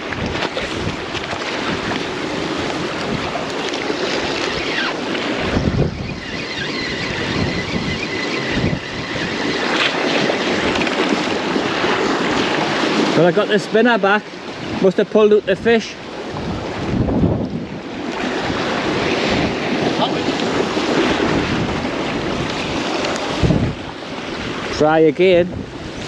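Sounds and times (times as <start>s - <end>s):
gale wind buffeting microphone: 0.0s - 26.0s
sea surf washing: 0.0s - 26.0s.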